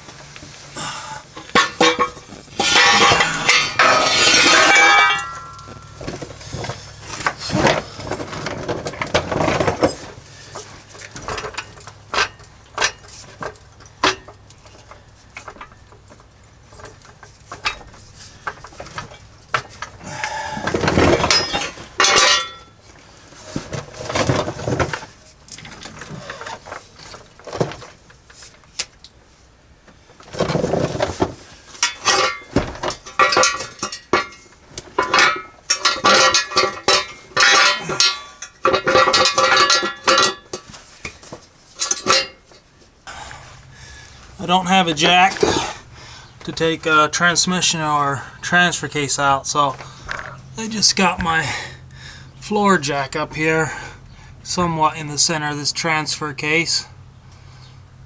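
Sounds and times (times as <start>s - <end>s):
hand tools clanking on metal: 0.0s - 29.0s, 30.3s - 56.9s.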